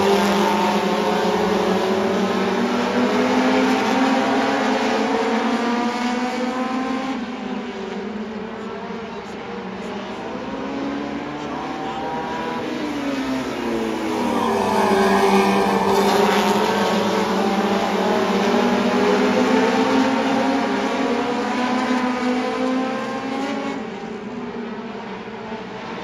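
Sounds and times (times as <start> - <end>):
stock cars racing past: 0.0 - 26.0.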